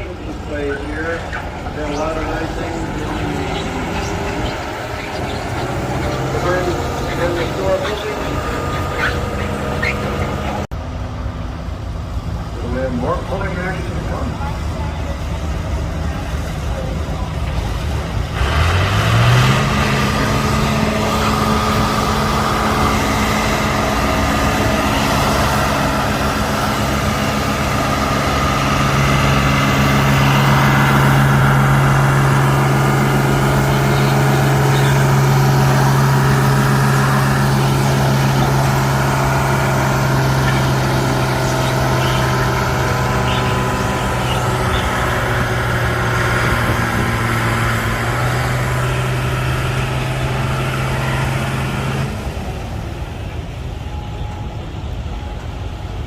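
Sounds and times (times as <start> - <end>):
tractor engine revving: 0.0 - 55.7.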